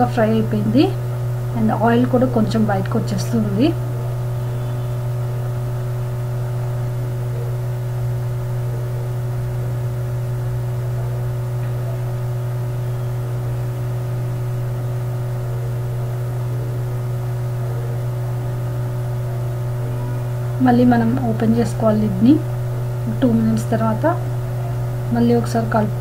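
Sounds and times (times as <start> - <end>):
faint steady tones: 0.0 - 26.0
low electrical hum: 0.0 - 26.0.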